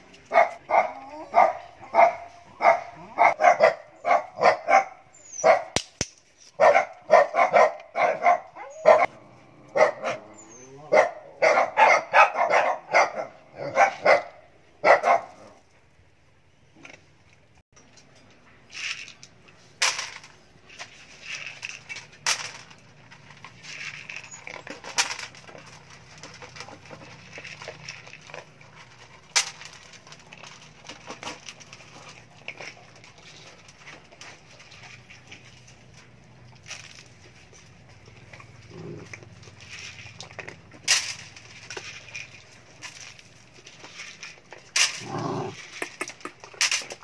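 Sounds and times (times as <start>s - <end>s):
dogs chewing and crunching kibble: 0.0s - 47.0s.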